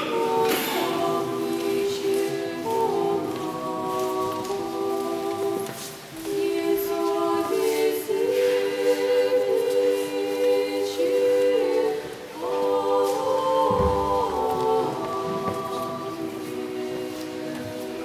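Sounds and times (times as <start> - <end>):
women's choir chanting: 0.0 - 18.0.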